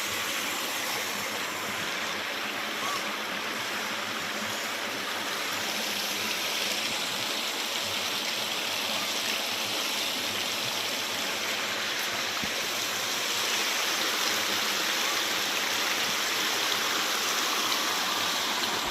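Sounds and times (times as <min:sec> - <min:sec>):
water running over rocks: 0:00.0 - 0:18.9.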